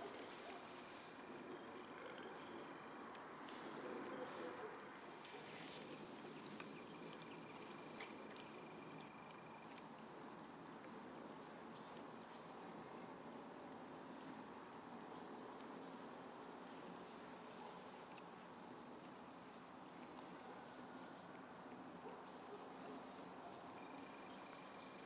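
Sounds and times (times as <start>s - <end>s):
faint woodland background: 0.0s - 25.0s.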